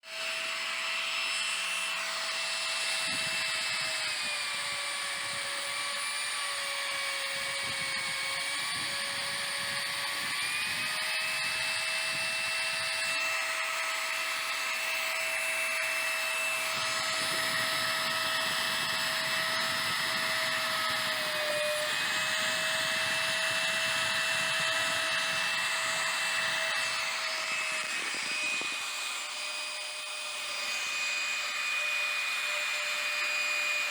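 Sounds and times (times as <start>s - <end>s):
router spindle whining: 0.0s - 33.9s.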